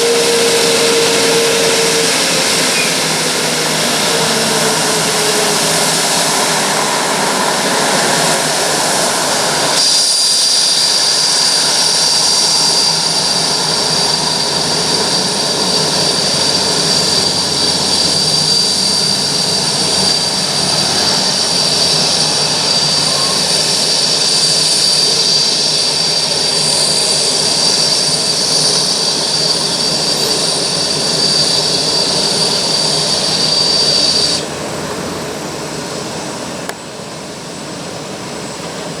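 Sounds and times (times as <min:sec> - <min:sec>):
high-pitched whine: 0:00.0 - 0:39.0
jet engines running: 0:00.0 - 0:39.0.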